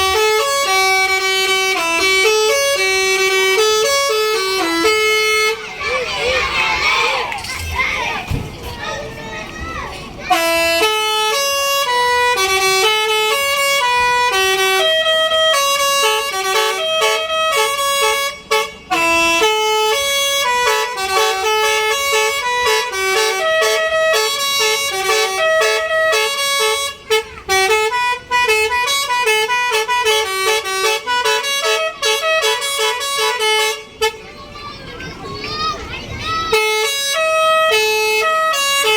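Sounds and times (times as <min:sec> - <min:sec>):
multi-note electric bus horn melody: 0:00.0 - 0:06.5, 0:10.2 - 0:34.6, 0:36.4 - 0:38.9.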